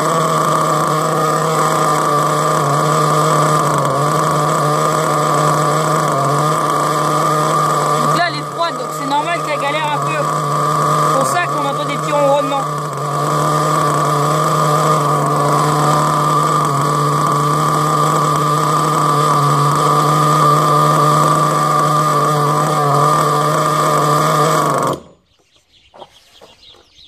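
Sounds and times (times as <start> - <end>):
small engine idling: 0.0 - 27.0.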